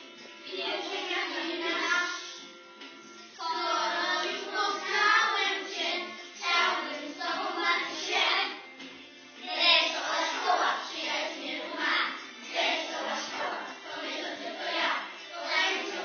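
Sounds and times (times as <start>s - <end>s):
musical accompaniment: 0.0s - 16.0s
young children singing: 0.0s - 16.0s.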